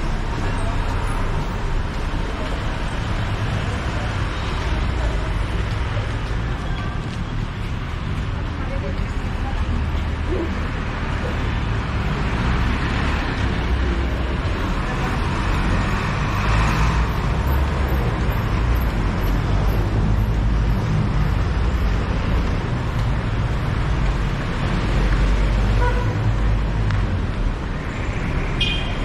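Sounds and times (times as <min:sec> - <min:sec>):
deep traffic rumble: 0:00.0 - 0:29.0
passing cars: 0:00.0 - 0:29.0.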